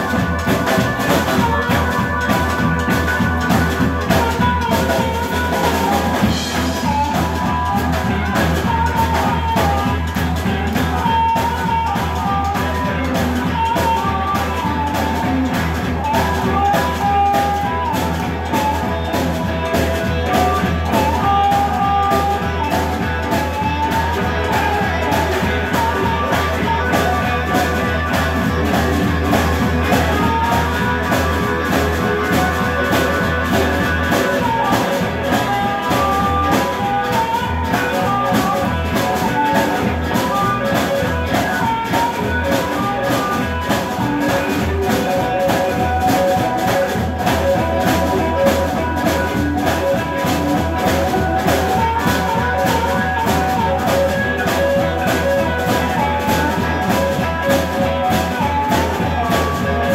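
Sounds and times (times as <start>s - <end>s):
electric guitar: 0.0s - 59.9s
harmonica: 0.0s - 59.9s
upright bass: 0.0s - 59.9s.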